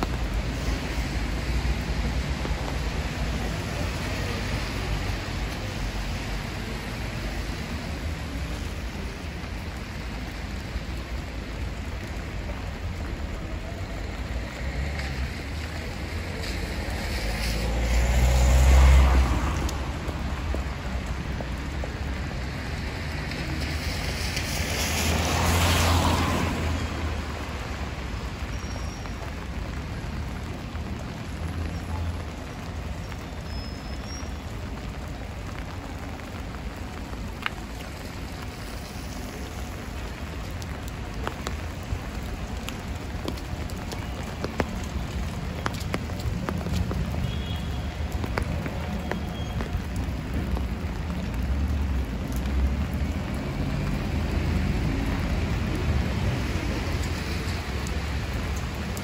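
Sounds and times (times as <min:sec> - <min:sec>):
steady rain: 0:00.0 - 0:59.0
vehicle passing on wet road: 0:00.0 - 0:59.0.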